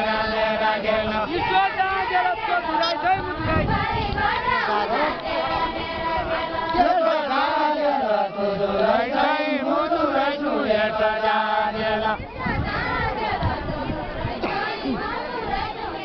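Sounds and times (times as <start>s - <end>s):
men singing in unison: 0.0s - 16.0s.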